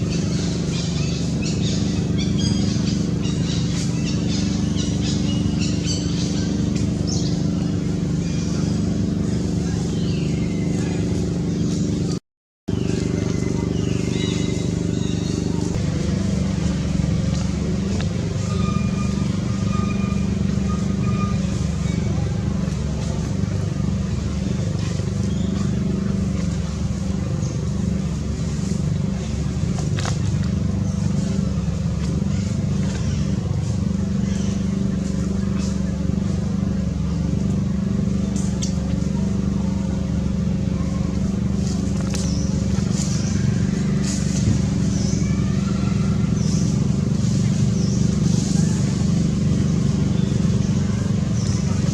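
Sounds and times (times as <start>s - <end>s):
steady engine drone: 0.0s - 51.9s.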